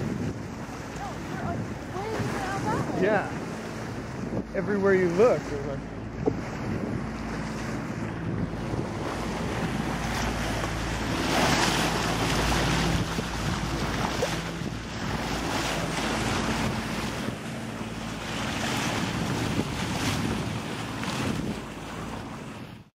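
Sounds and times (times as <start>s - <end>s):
steady low hum: 0.0s - 22.7s
water rushing along boat bow: 0.0s - 22.9s
wind buffeting microphone: 0.0s - 22.9s.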